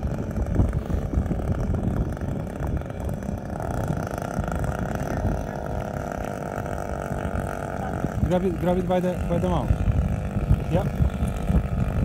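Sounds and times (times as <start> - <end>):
steady motor hum: 0.0 - 12.0
wind buffeting microphone: 0.0 - 12.0.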